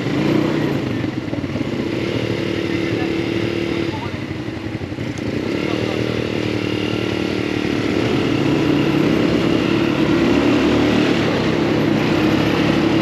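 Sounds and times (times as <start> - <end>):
buggy engine droning: 0.0 - 13.0
rough road noise: 0.0 - 13.0.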